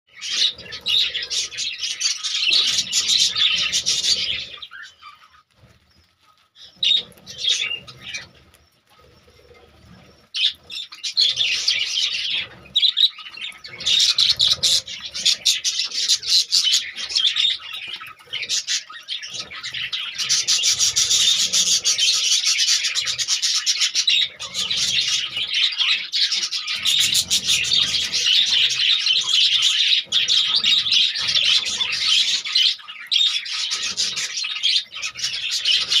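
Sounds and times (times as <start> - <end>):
budgerigars chattering: 0.1 - 6.0, 6.6 - 36.0.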